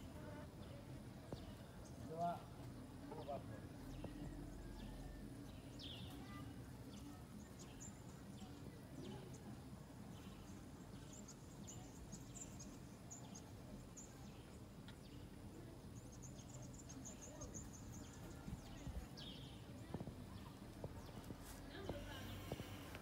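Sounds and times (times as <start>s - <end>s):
faint outdoor background noise: 0.0s - 23.0s.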